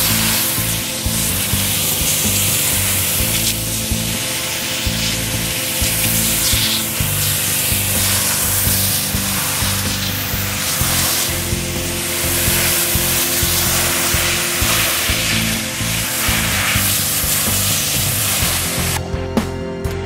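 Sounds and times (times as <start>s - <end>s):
pressure washer spray hissing: 0.0s - 19.0s
background music with bass: 0.0s - 20.0s.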